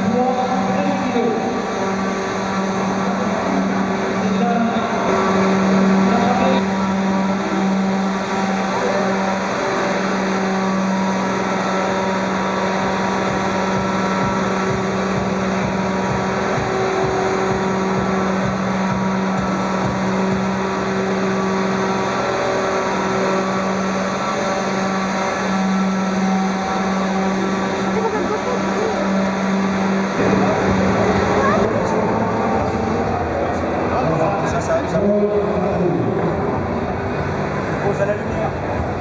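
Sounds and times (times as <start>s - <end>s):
model helicopter whirring hum: 0.0s - 39.0s.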